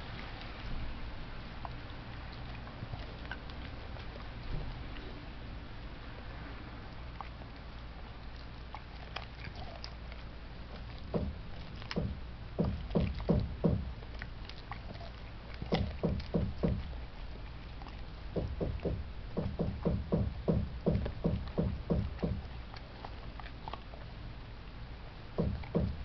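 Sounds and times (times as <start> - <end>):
dog chewing bone crunching: 1.4 - 6.3, 6.9 - 26.0.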